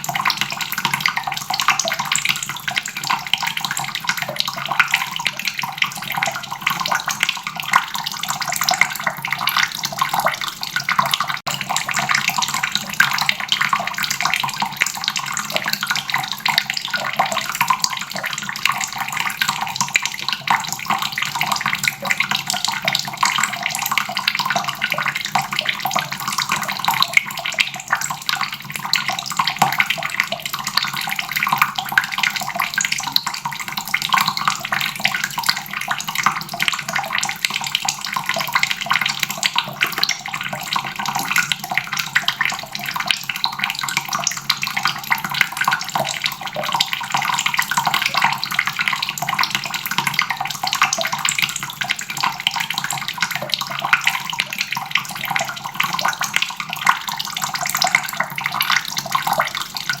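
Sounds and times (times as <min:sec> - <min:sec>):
tap water splashing into basin: 0:00.0 - 1:00.0.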